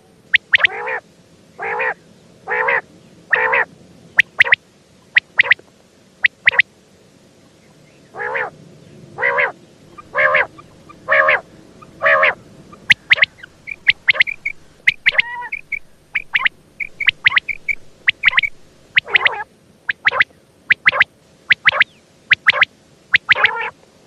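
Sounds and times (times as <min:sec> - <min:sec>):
quail calling: 0:00.3 - 0:01.0, 0:01.6 - 0:05.6, 0:06.2 - 0:06.7, 0:08.1 - 0:08.6, 0:09.2 - 0:23.8.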